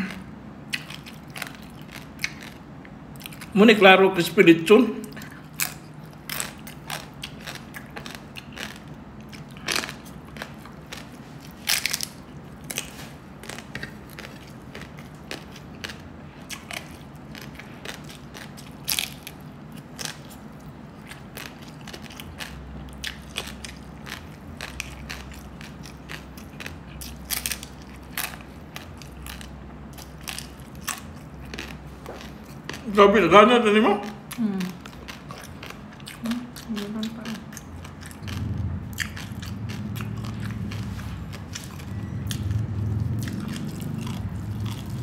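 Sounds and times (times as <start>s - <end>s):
crispy skin crunching when chewed: 0.0s - 3.6s, 5.0s - 33.0s, 33.9s - 45.0s.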